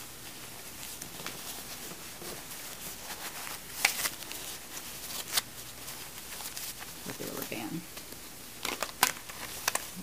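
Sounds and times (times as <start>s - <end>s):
diapers rustling and crinkling: 0.0s - 8.0s, 8.6s - 10.0s.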